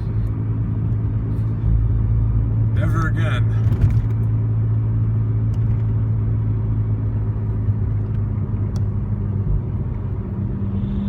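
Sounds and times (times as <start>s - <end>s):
car engine drone: 0.0s - 11.0s
road rumble: 0.0s - 11.0s.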